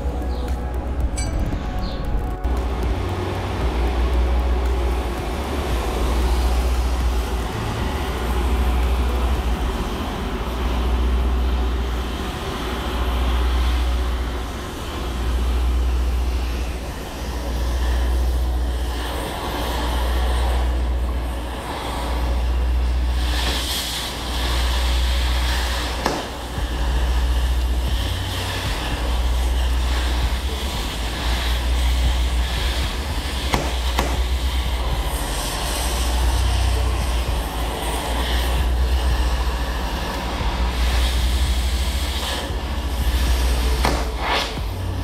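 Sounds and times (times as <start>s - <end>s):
cutting torch hissing: 0.0s - 45.0s
deep rumble: 0.0s - 45.0s.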